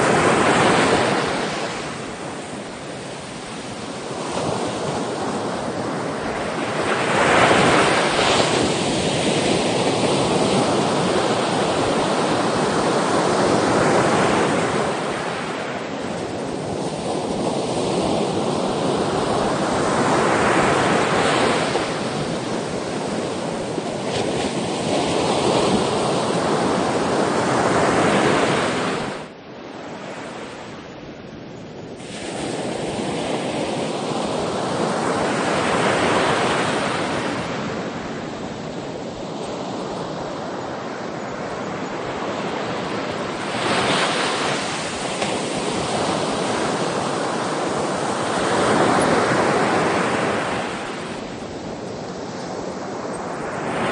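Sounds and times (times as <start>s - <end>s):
sea waves washing ashore: 0.0s - 53.9s.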